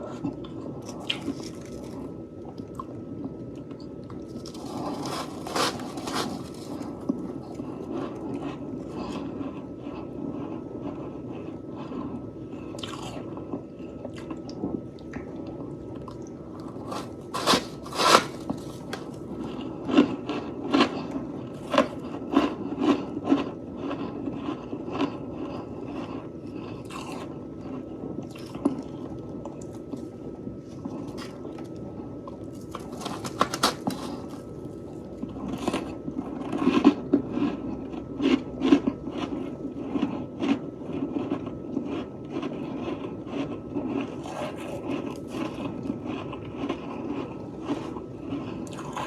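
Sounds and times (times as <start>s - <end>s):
person chewing frost crunching: 0.0s - 49.0s.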